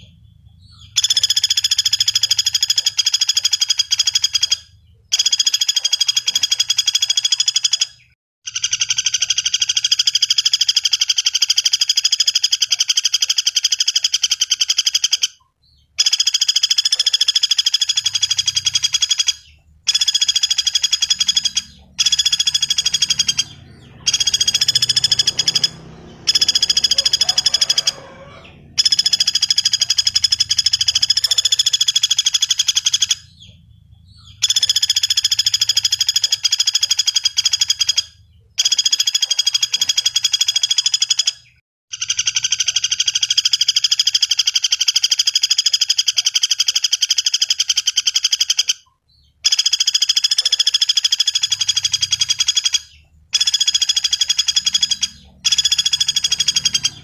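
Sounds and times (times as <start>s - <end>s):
woodpecker rattling trills: 0.0s - 57.0s.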